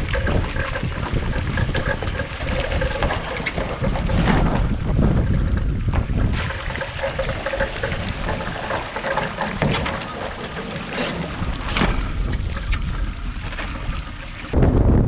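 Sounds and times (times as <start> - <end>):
water rushing and splashing: 0.0 - 14.6
wind on microphone: 0.0 - 15.0.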